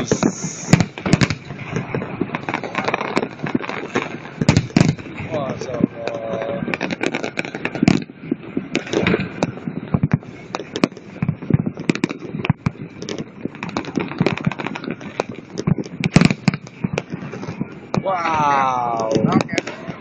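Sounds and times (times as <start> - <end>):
fireworks bangs and pops: 0.0 - 20.0.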